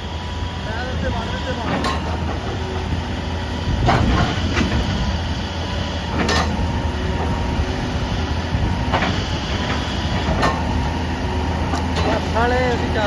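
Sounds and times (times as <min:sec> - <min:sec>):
heavy machinery engine rumbling: 0:00.0 - 0:13.0.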